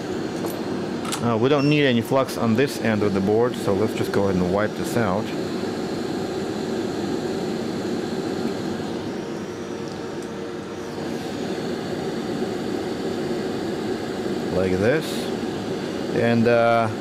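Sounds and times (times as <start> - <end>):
hot air station blowing: 0.0 - 17.0.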